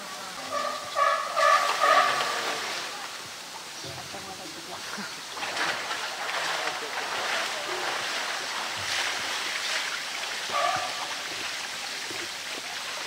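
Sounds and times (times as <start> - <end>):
rain and running water: 0.0 - 13.0.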